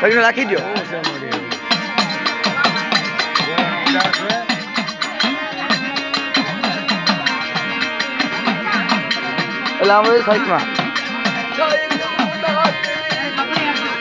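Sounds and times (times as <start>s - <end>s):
fast percussion strokes: 0.0s - 14.0s
wavering melody: 0.0s - 14.0s.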